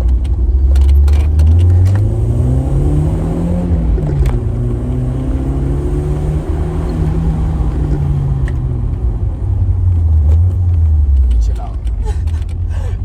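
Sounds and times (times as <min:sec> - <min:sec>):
car engine running under load: 0:00.0 - 0:13.0.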